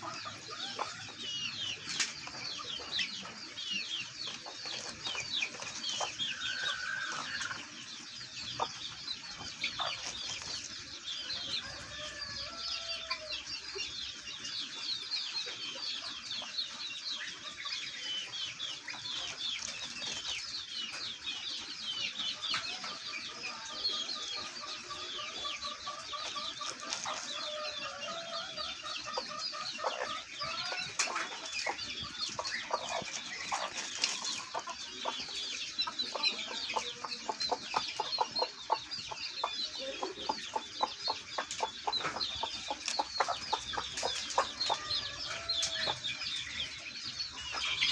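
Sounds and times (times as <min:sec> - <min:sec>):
poultry chirping: 0:00.0 - 0:47.9.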